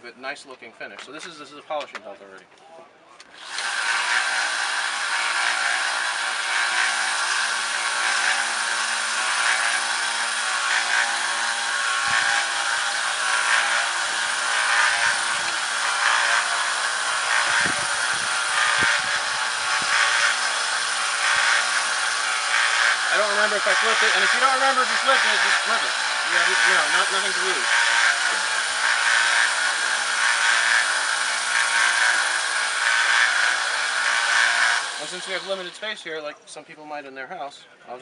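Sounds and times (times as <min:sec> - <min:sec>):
abrasive belt hissing on steel: 0:03.5 - 0:35.8.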